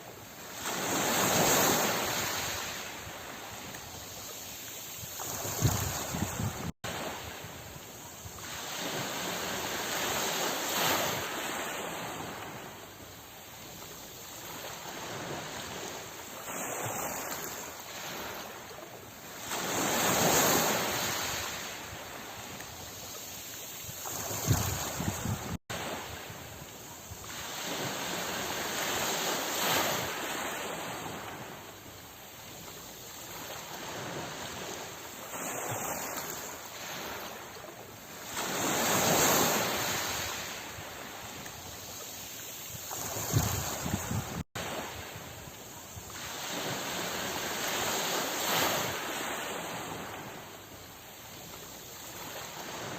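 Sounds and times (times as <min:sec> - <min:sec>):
sea waves breaking ashore: 0:00.0 - 0:52.9.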